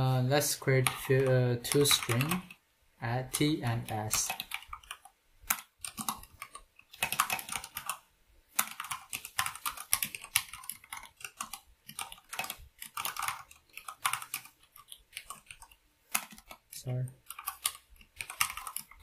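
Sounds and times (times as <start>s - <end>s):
computer keyboard typing: 0.5s - 2.6s, 3.2s - 19.0s.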